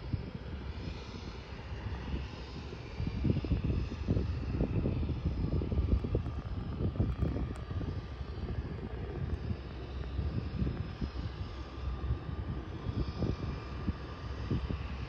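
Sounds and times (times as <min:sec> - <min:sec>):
distant floatplane engine running: 0:00.0 - 0:15.0
gusty wind on microphone: 0:00.0 - 0:15.0.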